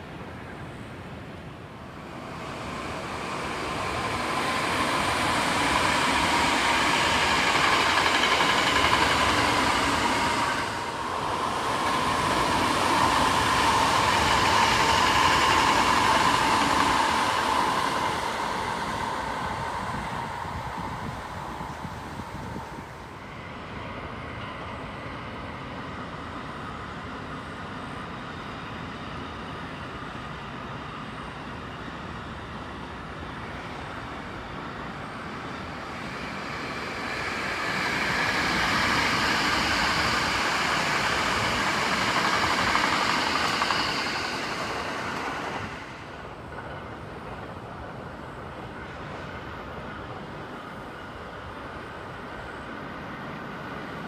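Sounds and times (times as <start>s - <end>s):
distant background noise: 0.0s - 54.0s
train wheels on rails: 0.0s - 54.0s.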